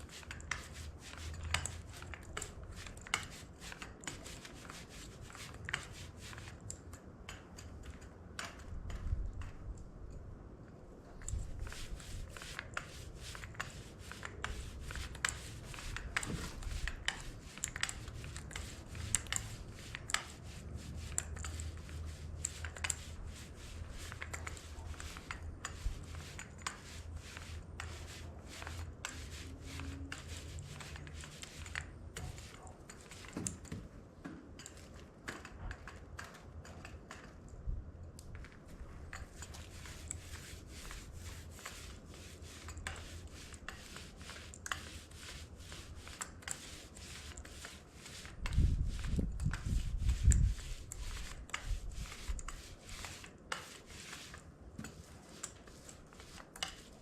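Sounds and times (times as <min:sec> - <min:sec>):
paint roller clicking: 0:00.0 - 0:09.6, 0:11.2 - 0:33.8, 0:34.6 - 0:37.5, 0:38.2 - 0:57.0.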